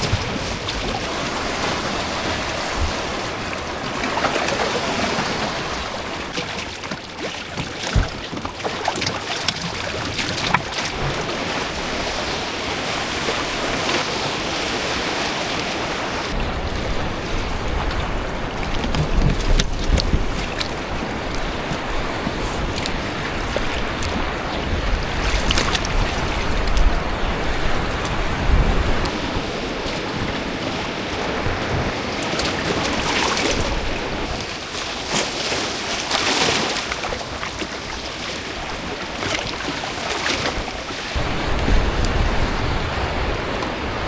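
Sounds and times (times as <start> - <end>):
wind buffeting microphone: 0.0 - 6.8, 9.6 - 34.7, 37.9 - 44.0
rushing waves: 0.0 - 44.0
water splashing: 0.0 - 44.0.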